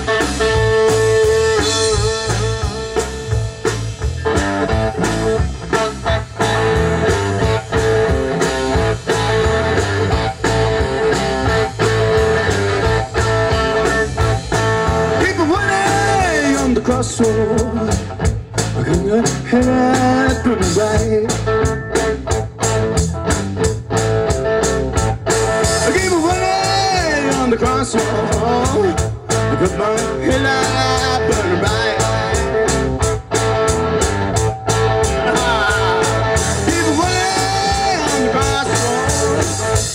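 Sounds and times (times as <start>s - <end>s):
band with drums: 0.0s - 39.9s
guitar lead with bent notes: 0.0s - 39.9s.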